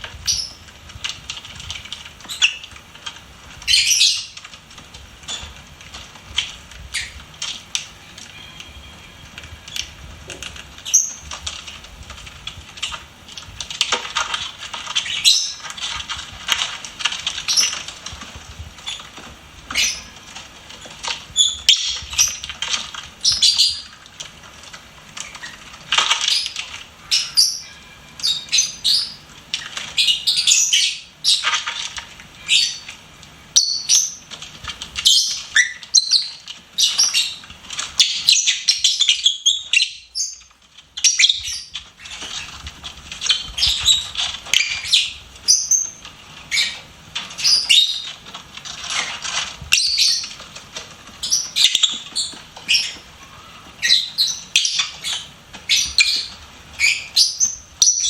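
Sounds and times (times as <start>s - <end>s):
birds chirping and squeaking: 0.2s - 58.0s.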